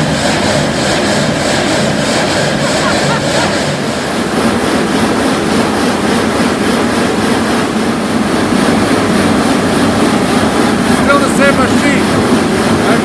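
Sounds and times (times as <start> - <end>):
gang saw cutting stone: 0.0 - 13.0.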